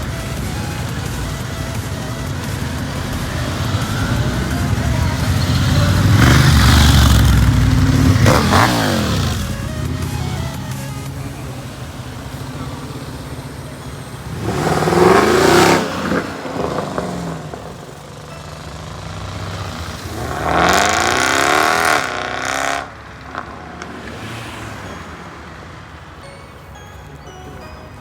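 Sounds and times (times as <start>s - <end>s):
low engine rumble: 0.0s - 24.1s
cars revving and accelerating: 0.0s - 28.0s
loud car passes: 0.0s - 28.0s.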